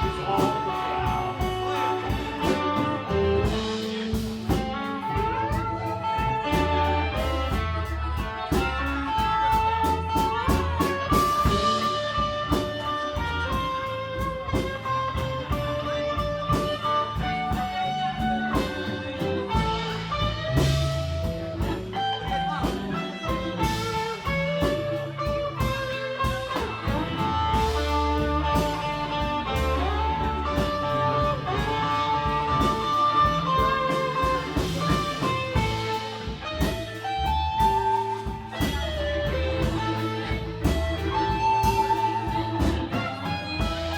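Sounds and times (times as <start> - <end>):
bass guitar: 0.0 - 43.9
drums: 0.0 - 43.9
electric guitar lead: 0.0 - 43.9.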